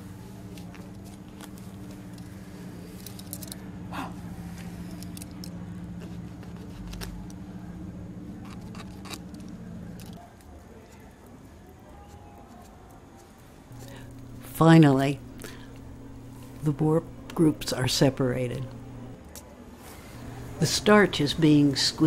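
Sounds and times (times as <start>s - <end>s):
steady low hum: 0.0s - 11.1s, 13.3s - 22.0s.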